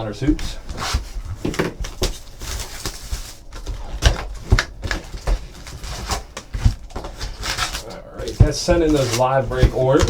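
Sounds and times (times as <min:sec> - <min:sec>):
card packs being handled and opened: 0:00.0 - 0:10.0.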